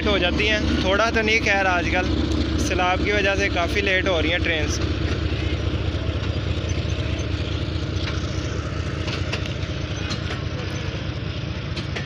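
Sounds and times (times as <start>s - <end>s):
diesel locomotive drone: 0.0s - 12.0s
wheels clicking over rail joints: 0.0s - 12.0s.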